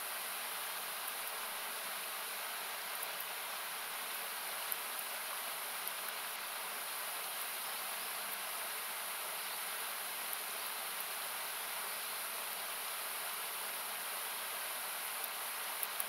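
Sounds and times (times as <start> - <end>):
campfire crackles: 0.1 - 16.0.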